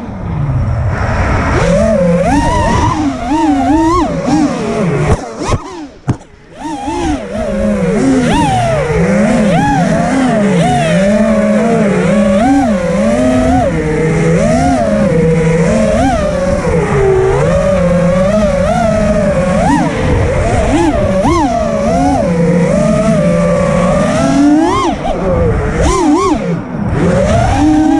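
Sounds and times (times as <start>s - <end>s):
quadcopter propellers whining: 0.0s - 27.9s.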